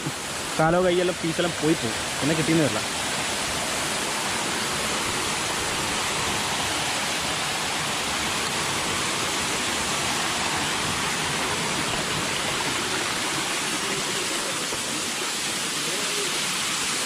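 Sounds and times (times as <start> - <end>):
water splashing over rocks: 0.0 - 17.0.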